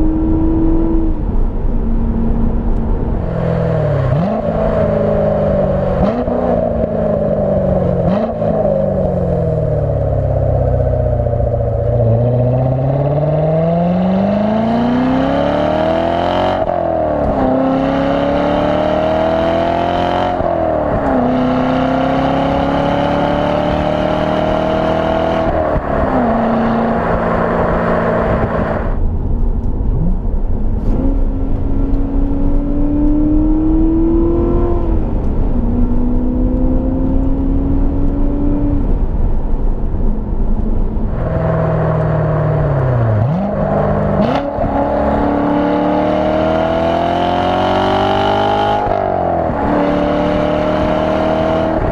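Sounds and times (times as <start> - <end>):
sports car engine accelerating: 0.0 - 51.9.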